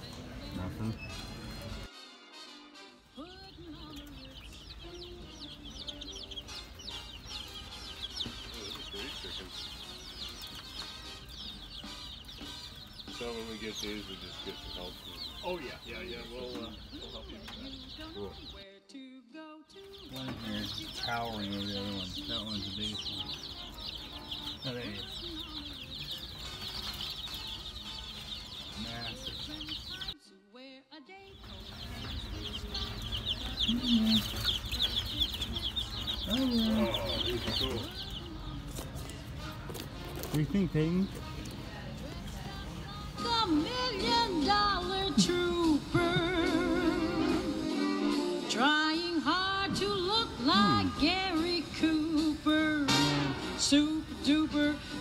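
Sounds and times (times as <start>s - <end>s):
baby chicks peeping: 0.0s - 1.9s, 3.1s - 18.8s, 19.7s - 30.2s, 31.2s - 55.0s.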